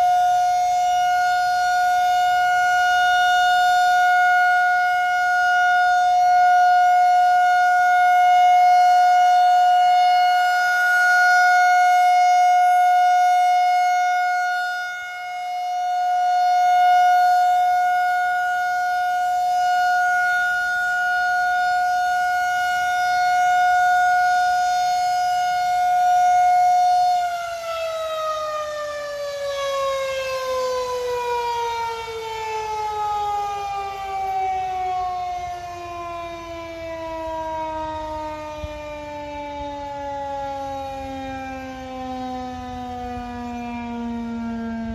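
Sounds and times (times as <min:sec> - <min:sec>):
outdoor warning siren tone: 0:00.0 - 0:44.9.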